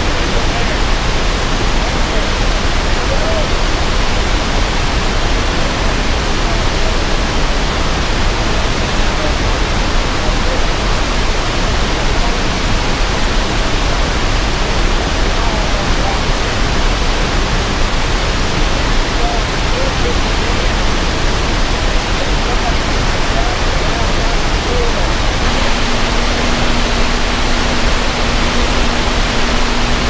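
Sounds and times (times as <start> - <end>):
water torrent rushing from dam: 0.0 - 30.0.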